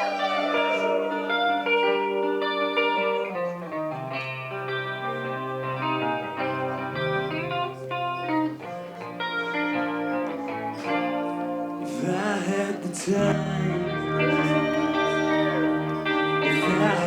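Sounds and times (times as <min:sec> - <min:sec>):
guitar chords: 0:00.0 - 0:17.0.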